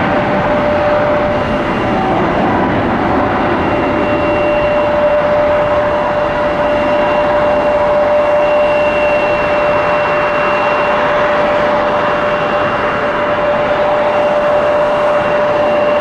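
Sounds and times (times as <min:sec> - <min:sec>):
jet engine whine: 0:00.0 - 0:16.0
jet engines roaring: 0:00.0 - 0:16.0.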